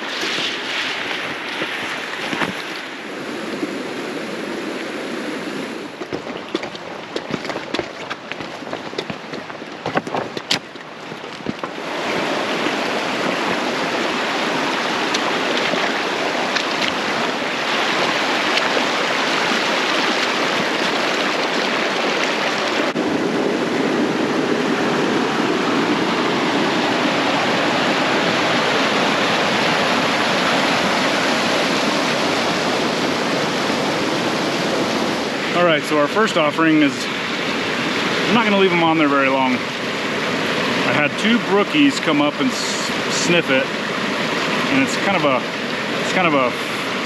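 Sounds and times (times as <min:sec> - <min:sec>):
stream rushing: 0:00.0 - 0:47.0.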